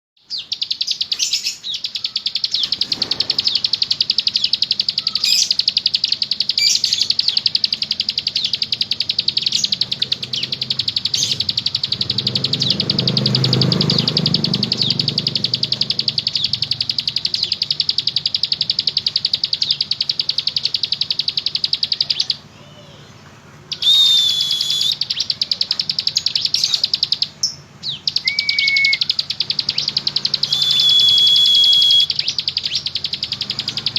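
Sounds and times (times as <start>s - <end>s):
songbird buzzing trill: 0.3s - 22.3s, 23.8s - 33.9s
bird whistled notes: 0.3s - 22.4s, 23.7s - 33.9s.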